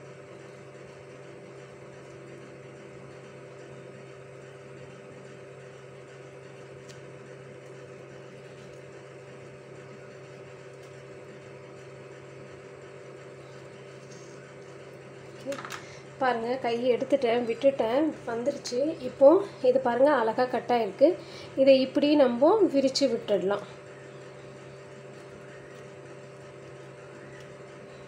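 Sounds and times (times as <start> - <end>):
steady machine-like hum: 0.0 - 28.0.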